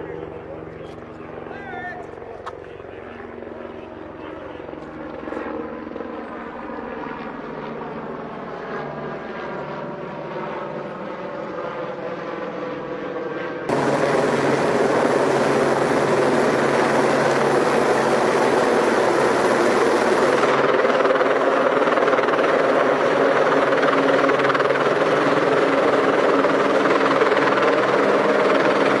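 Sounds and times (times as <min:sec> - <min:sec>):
helicopter running: 0:00.0 - 0:29.0.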